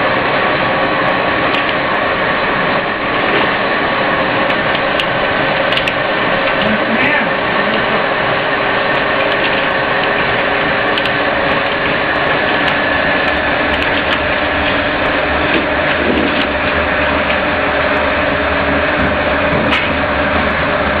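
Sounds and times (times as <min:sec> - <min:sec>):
pellet mill mechanical drone: 0:00.0 - 0:21.0.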